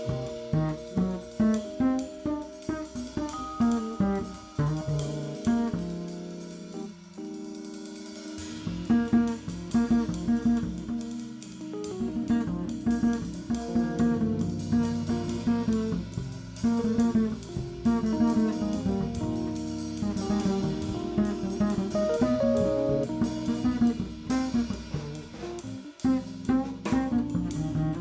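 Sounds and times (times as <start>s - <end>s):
plucked double bass: 0.0s - 7.0s, 8.5s - 28.0s
drum kit: 0.0s - 28.0s
electric piano: 0.0s - 28.0s.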